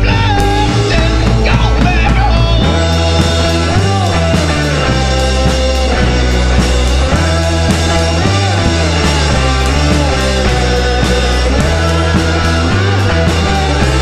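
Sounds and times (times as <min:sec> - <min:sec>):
drum kit beat: 0:00.0 - 0:14.0
electric bass line: 0:00.0 - 0:14.0
electric guitar: 0:00.0 - 0:14.0
strummed acoustic-electric guitar: 0:00.0 - 0:14.0.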